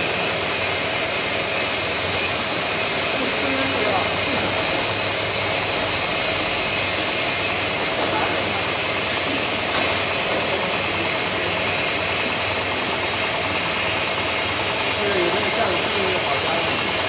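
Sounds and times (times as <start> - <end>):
machine running with whine: 0.0 - 17.0.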